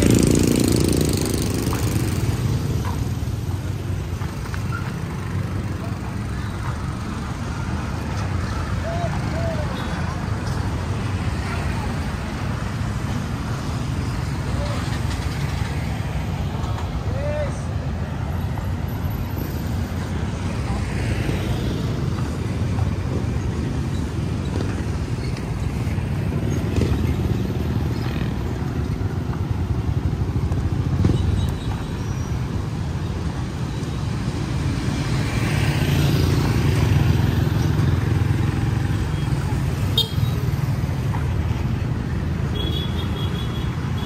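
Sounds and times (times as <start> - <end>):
passing vehicle engines: 0.0 - 44.0.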